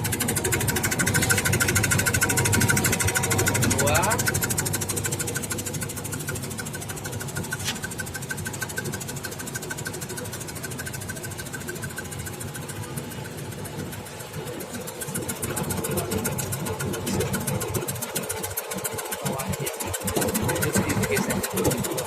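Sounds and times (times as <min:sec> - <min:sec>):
fast mechanical ticking: 0:00.0 - 0:22.0
slicing machine running: 0:00.0 - 0:22.0.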